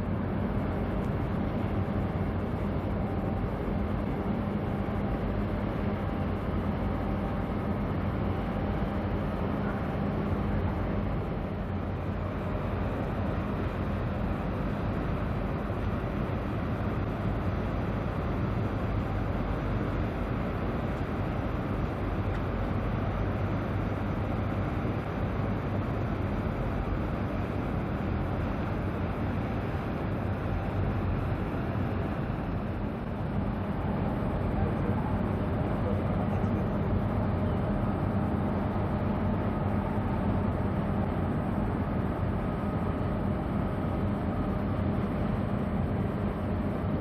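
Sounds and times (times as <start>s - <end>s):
ferry engines droning: 0.0s - 47.0s.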